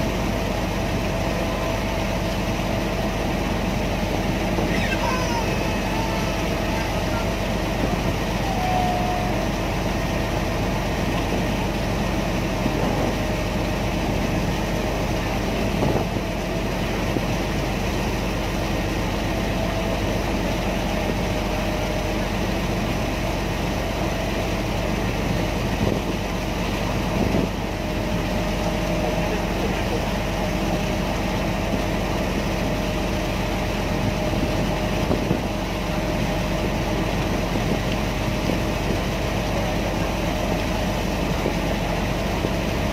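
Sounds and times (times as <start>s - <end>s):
ferry engine droning: 0.0s - 42.9s.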